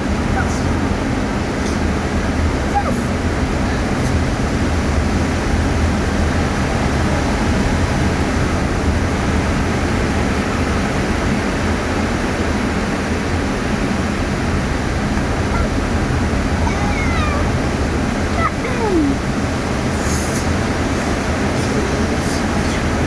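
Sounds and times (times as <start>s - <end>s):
car driving slowly: 0.0s - 23.0s.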